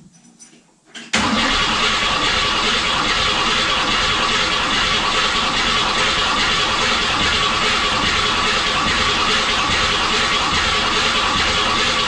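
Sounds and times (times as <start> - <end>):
engine starter cranking: 1.1 - 12.0.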